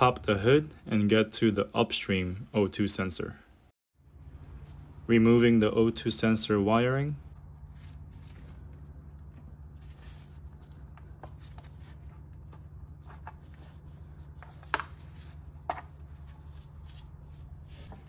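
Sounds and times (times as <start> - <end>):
steady low hum: 3.5 - 18.0.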